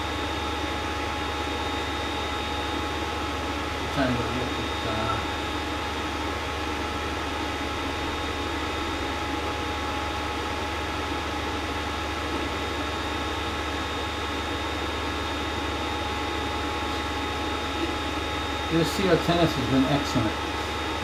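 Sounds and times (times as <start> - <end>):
printer cooling fans whirring: 0.0 - 21.0.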